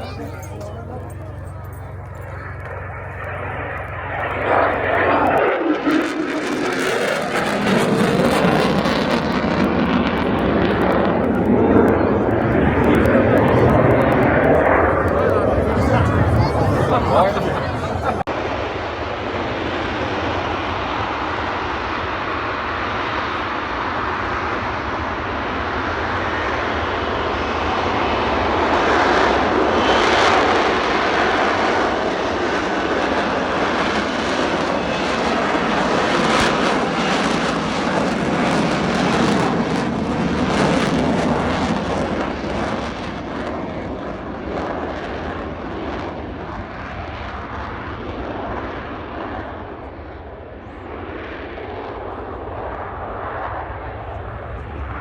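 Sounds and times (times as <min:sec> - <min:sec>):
jet aircraft flying past: 0:00.0 - 0:55.0.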